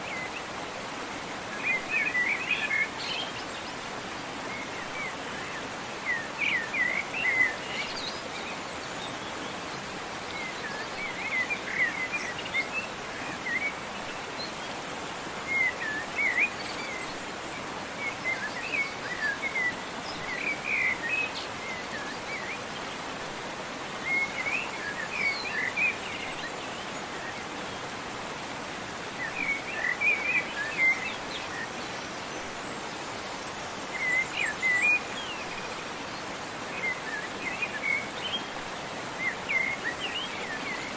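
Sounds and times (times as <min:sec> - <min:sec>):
songbirds chirping: 0:00.0 - 0:40.9
waterfall rushing: 0:00.0 - 0:40.9.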